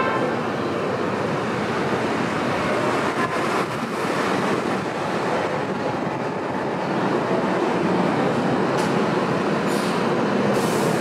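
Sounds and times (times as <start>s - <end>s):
subway train running past: 0.0s - 11.0s.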